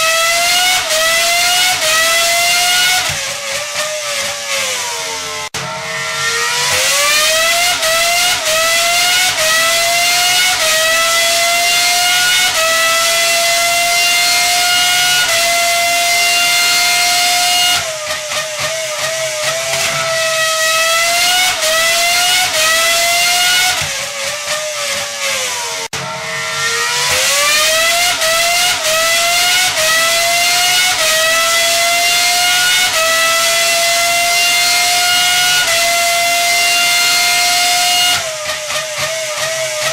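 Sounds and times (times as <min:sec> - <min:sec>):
high-revving engine accelerating: 0:00.0 - 0:39.9.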